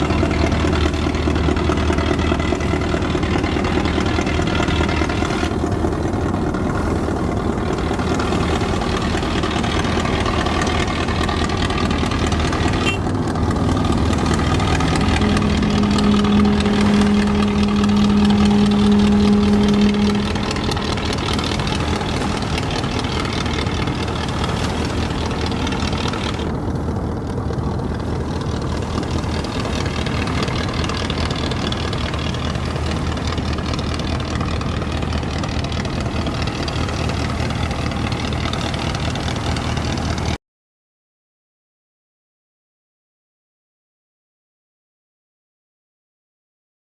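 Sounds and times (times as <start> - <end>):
long low horn tone: 0.0 - 26.6, 28.0 - 40.4
boat diesel engine droning: 0.0 - 40.4.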